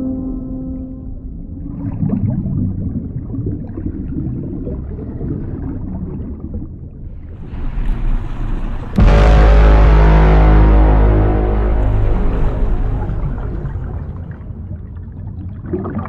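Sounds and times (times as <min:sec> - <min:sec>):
underwater churning rumble: 0:01.0 - 0:16.0
water bubbling: 0:01.0 - 0:16.0.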